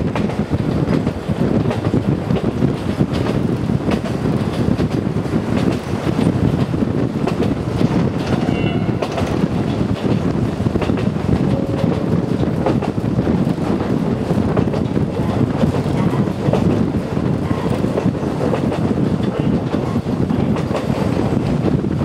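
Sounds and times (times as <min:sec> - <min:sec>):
rail joint clicks: 0:00.0 - 0:22.0
train wheels rumbling on rails: 0:00.0 - 0:22.0.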